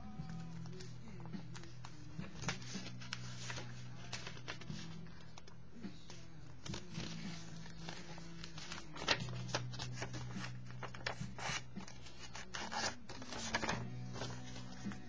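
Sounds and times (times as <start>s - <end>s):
paper rustling and rubbing: 0.3s - 15.0s.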